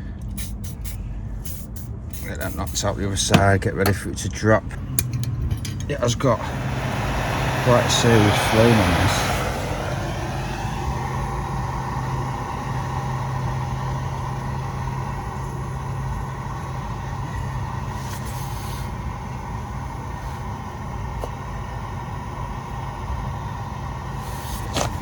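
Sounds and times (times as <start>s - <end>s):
propane burner roaring: 0.0s - 25.0s.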